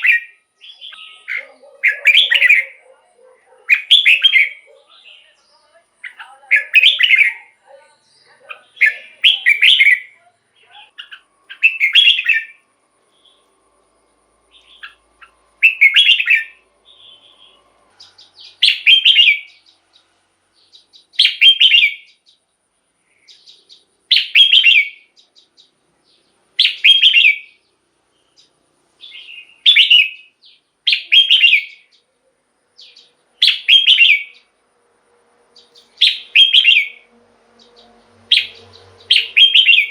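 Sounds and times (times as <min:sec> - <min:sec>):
bird singing: 0:00.0 - 0:34.6, 0:35.4 - 0:39.9.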